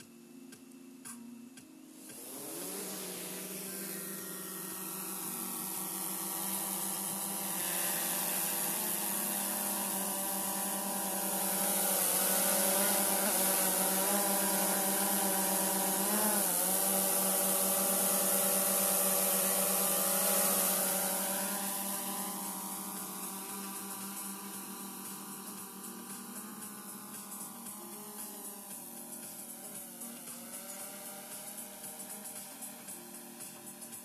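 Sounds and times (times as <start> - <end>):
drone propellers buzzing: 2.0 - 34.0.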